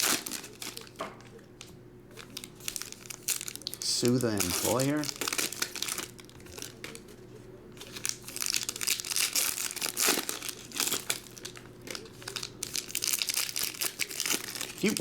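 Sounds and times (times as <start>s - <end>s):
wrappers crinkling and tearing: 0.0s - 15.0s.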